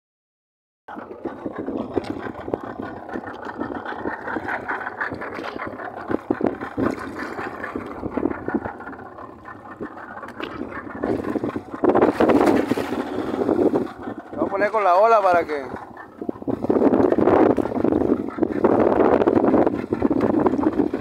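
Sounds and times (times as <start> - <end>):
boat motor running: 0.9 - 21.0.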